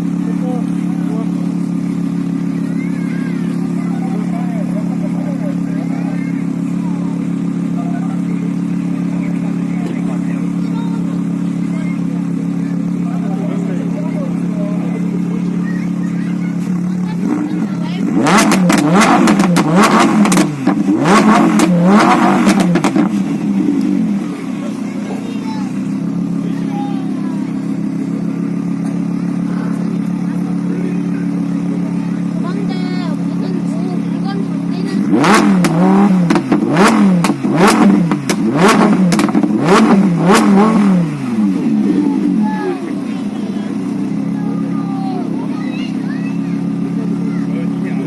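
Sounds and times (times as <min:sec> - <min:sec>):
exhaust crackles: 0:00.0 - 0:48.0
sports car engine revving: 0:00.0 - 0:48.0.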